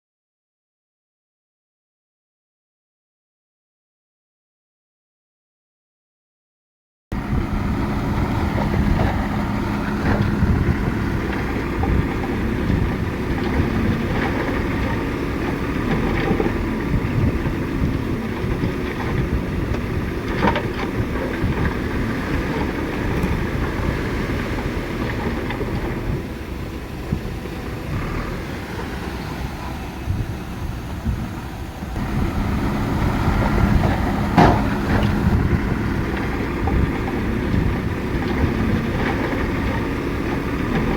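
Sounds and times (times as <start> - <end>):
heavy machinery rumbling: 7.1 - 40.9.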